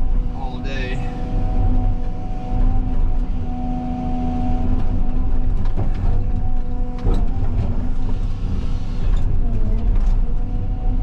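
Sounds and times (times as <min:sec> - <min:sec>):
excavator engine and hydraulics: 0:00.0 - 0:11.0.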